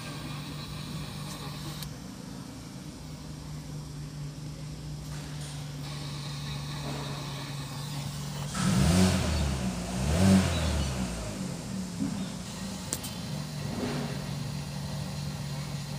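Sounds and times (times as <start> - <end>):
car engine idling and revving: 0.0 - 2.6, 4.8 - 15.9.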